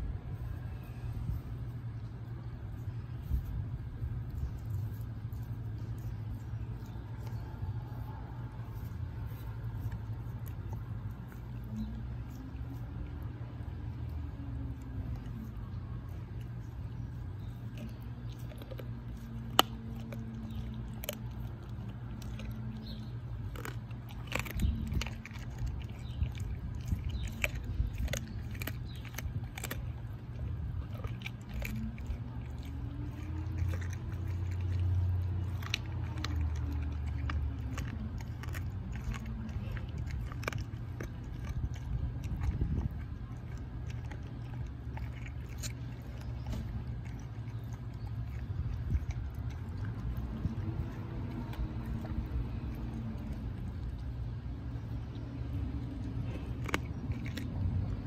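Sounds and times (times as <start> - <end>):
dog chewing bone: 2.6 - 58.0.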